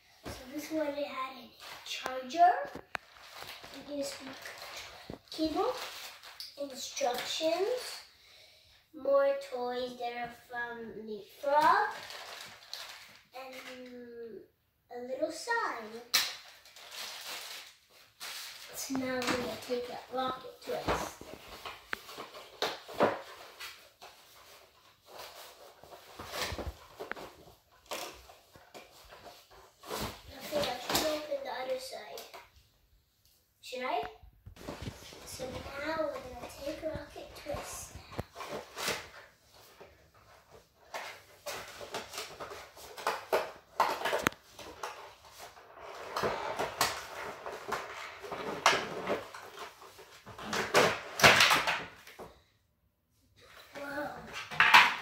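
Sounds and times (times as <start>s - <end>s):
cardboard and plastic rustling: 0.1s - 8.0s, 11.2s - 13.9s, 15.2s - 32.6s, 33.7s - 52.5s, 53.4s - 55.0s.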